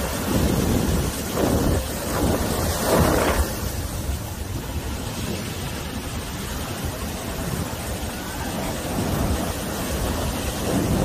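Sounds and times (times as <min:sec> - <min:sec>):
ocean surf breaking on beach: 0:00.0 - 0:11.0
wind rumbling on microphone: 0:00.0 - 0:11.0.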